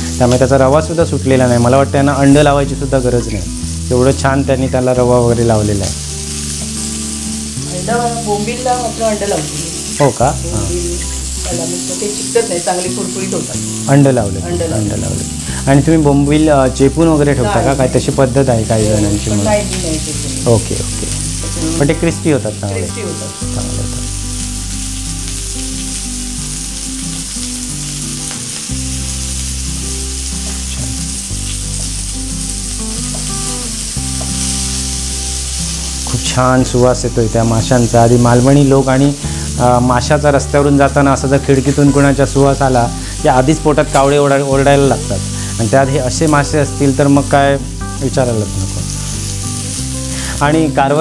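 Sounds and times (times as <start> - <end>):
fish sizzling in oil: 0.0 - 51.0.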